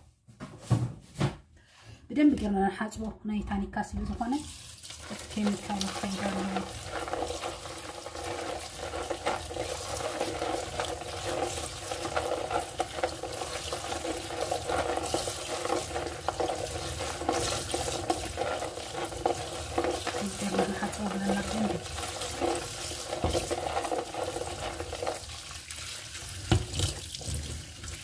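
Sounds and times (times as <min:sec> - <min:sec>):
tap water running into colander: 0:04.0 - 0:28.0
hands rubbing wet beans: 0:04.4 - 0:28.0.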